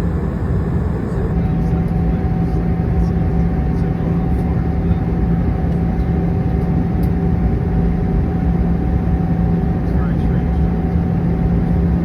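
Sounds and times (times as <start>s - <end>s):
aircraft cabin engine drone: 0.0s - 12.0s
constant hum: 0.0s - 12.0s.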